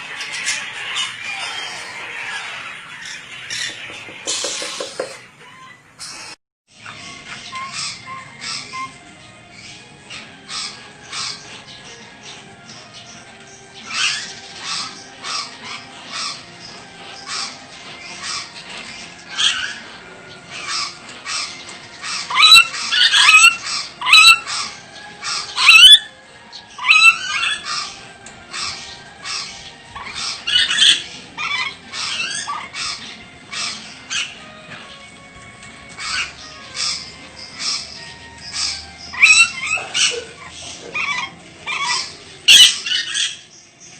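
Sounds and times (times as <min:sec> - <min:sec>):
parrot chattering and squawking: 0:00.0 - 0:12.3, 0:13.8 - 0:35.1, 0:35.8 - 0:43.5.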